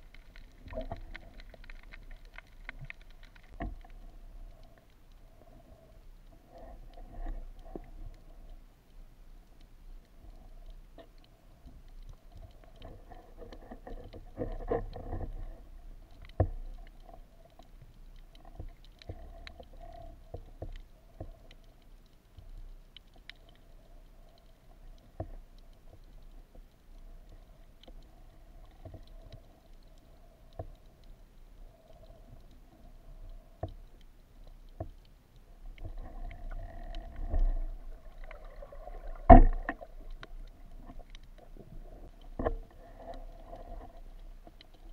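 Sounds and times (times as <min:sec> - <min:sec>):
muffled underwater water movement: 0:00.0 - 0:44.9.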